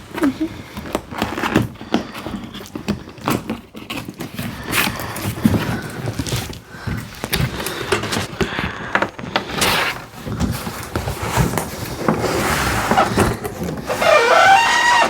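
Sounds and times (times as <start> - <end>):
cardboard box rustling: 0.0 - 15.0.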